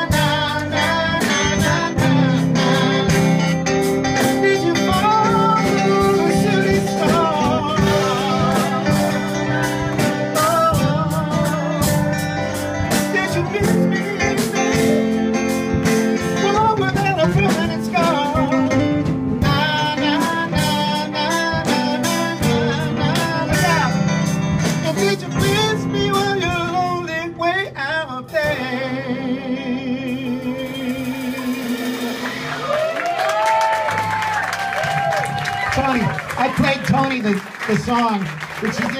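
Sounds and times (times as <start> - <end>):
man singing lead: 0.0 - 32.4
electric guitar: 0.0 - 37.1
drum kit: 0.0 - 38.9
electric keyboard: 0.0 - 38.9.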